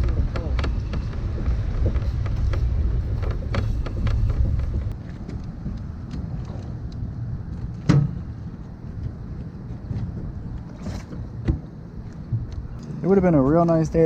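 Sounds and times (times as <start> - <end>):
kayak dragged along ground: 0.0 - 14.0.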